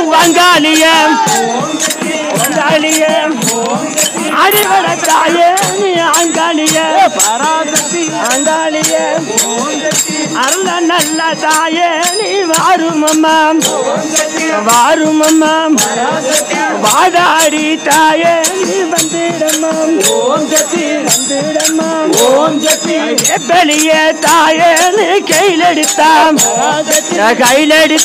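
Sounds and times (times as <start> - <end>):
group singing: 0.0 - 28.0
hand drum: 0.0 - 28.0
jingle tambourines: 0.0 - 28.0.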